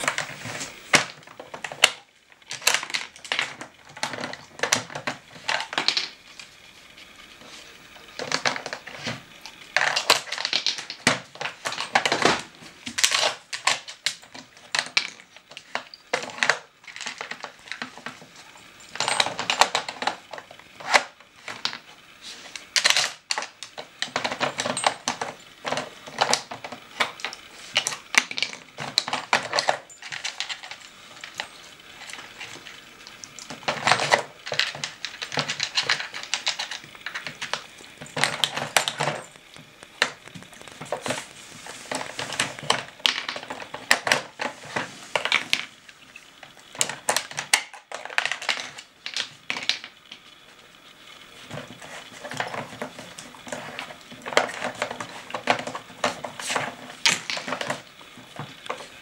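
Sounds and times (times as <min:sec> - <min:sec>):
plastic puzzle pieces clattering: 0:00.0 - 0:50.5, 0:51.2 - 0:59.0.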